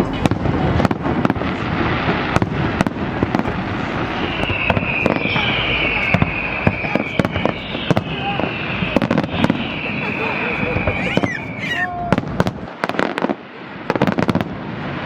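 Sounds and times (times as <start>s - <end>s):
fireworks cracking and popping: 0.0s - 15.0s
whistling firework: 0.0s - 15.0s.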